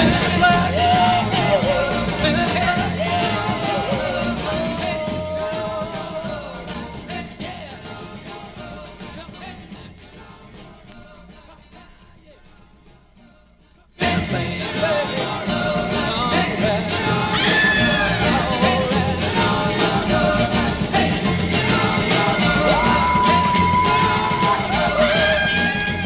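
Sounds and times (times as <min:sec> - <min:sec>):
rock and soul band playing: 0:00.0 - 0:09.9, 0:14.0 - 0:26.0
steady drum beat: 0:00.0 - 0:10.6, 0:14.0 - 0:26.0.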